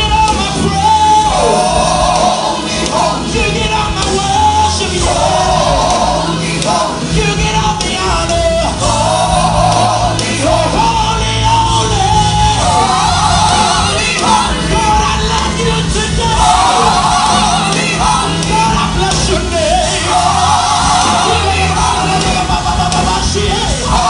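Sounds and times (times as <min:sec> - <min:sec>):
gospel choir singing: 0:00.0 - 0:24.0
instrumental backing with bass: 0:00.0 - 0:24.0.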